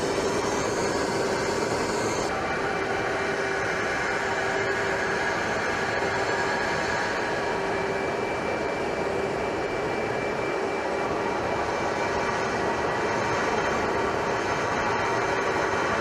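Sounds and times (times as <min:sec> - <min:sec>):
jet engine rushing: 0:00.0 - 0:16.0.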